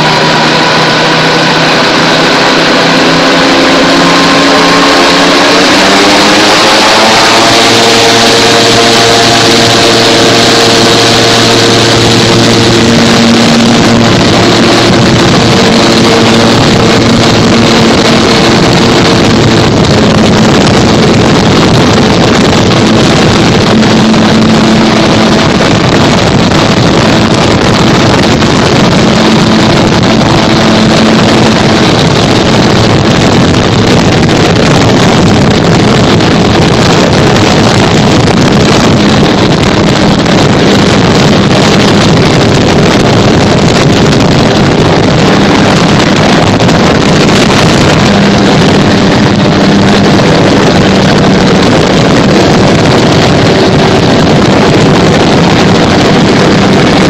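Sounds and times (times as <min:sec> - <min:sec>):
aircraft engine and propeller: 0:00.0 - 0:57.0
wind noise: 0:00.0 - 0:57.0.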